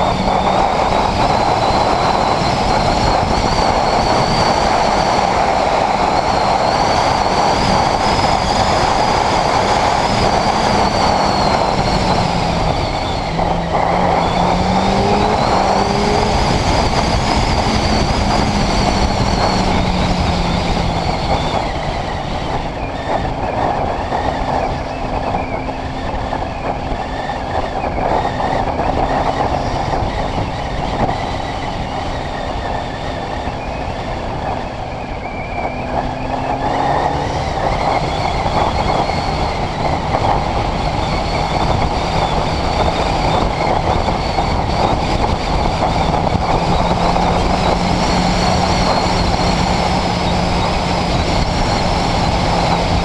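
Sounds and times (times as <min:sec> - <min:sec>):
motorcycle engine cruising: 0:00.0 - 0:53.0
wind rush on microphone: 0:00.0 - 0:53.0.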